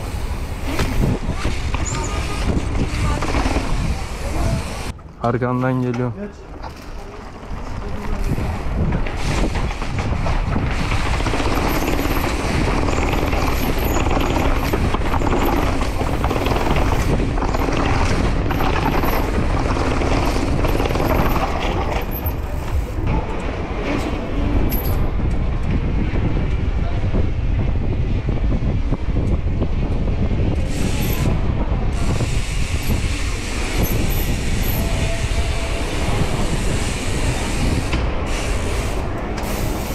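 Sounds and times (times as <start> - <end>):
mountain bike rattling over paving: 0.0 - 4.9, 6.2 - 25.1, 30.1 - 39.9
wind rushing over microphone: 0.0 - 5.0, 6.5 - 39.9.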